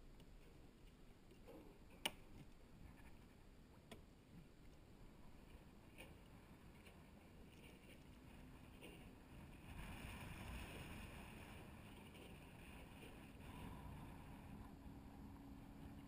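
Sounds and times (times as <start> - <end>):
faint wind and water hiss: 0.0 - 16.0.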